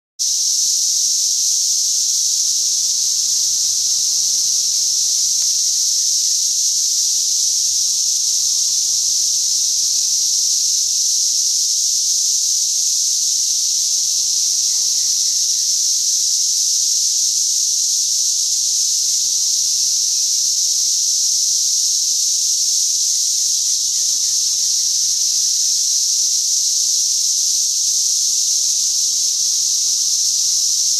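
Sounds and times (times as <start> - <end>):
cicadas buzzing: 0.2 - 30.9.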